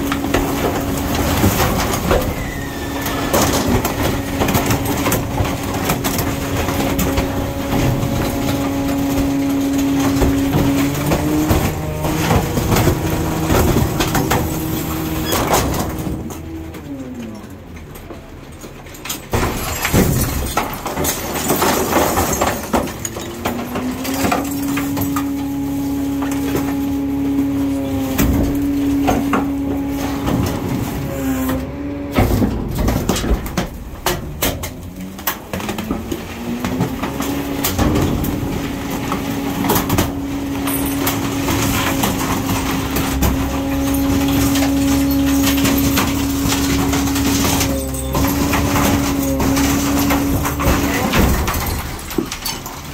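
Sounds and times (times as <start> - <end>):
hydraulic compactor whine: 0.0 - 52.9
trash knocking and clattering: 0.0 - 52.9.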